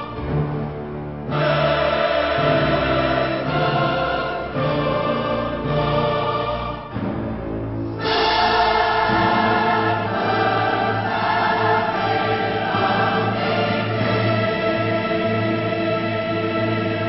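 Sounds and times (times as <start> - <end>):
choir singing held chords: 0.0 - 17.0
orchestral backing: 0.0 - 17.0.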